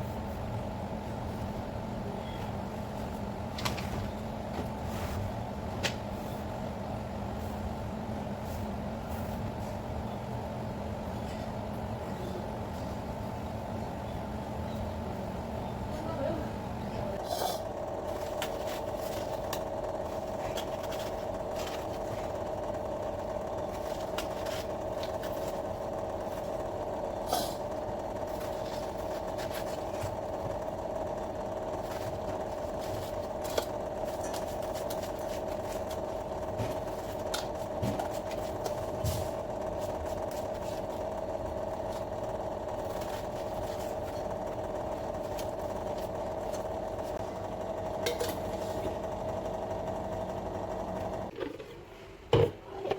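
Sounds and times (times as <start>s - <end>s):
steady mechanical hum: 0.0s - 52.9s.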